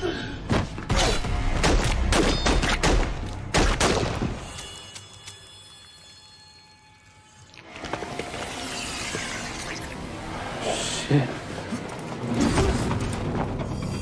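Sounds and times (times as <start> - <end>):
dramatic film score: 0.0 - 14.0.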